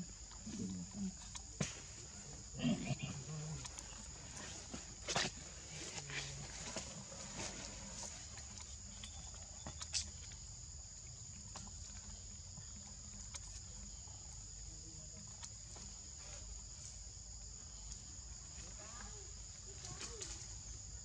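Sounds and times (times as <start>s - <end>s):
insects calling: 0.0s - 21.0s.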